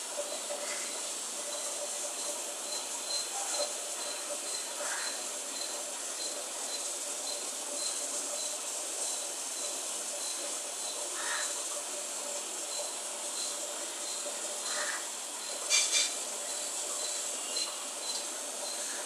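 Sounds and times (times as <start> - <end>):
steady hiss: 0.0 - 19.0
insect chirping: 0.2 - 19.0.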